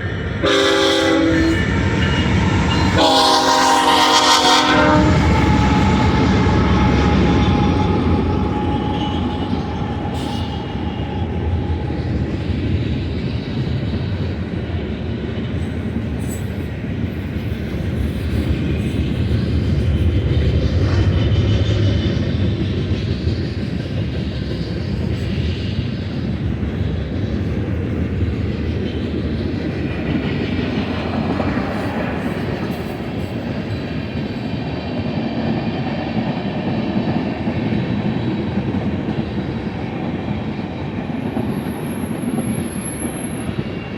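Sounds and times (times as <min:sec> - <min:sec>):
freight train cars rolling past: 0:00.0 - 0:43.9
steel wheels rattling on rail: 0:00.0 - 0:43.9.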